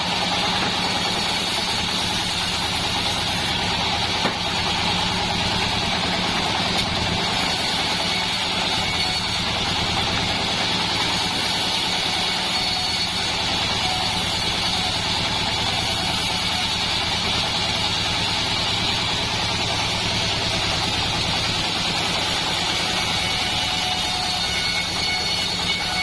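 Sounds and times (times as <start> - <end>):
bandsaw mill droning: 0.0 - 26.0.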